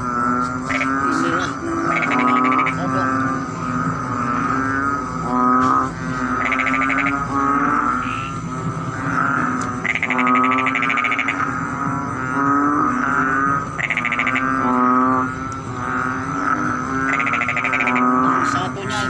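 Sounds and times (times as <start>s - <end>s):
frog low droning call: 0.0s - 19.0s
frog rapid rattling trill: 0.0s - 19.0s.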